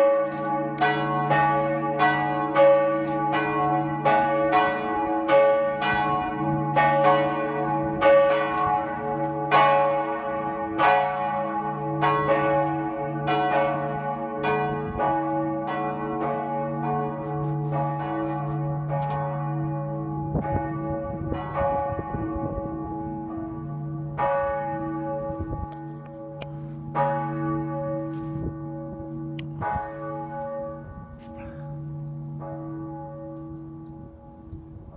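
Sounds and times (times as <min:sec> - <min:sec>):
church bells ringing: 0:00.0 - 0:34.9.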